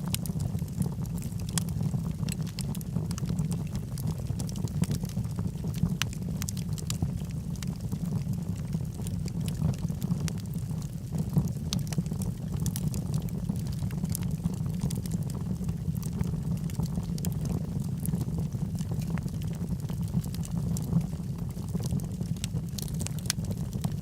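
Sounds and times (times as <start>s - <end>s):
fire flames rumbling: 0.0s - 24.0s
wood crackling and popping: 0.0s - 24.0s.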